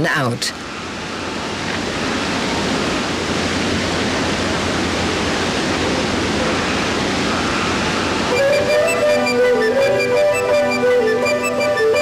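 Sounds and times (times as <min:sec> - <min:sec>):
fast-flowing churning water: 0:00.0 - 0:12.0.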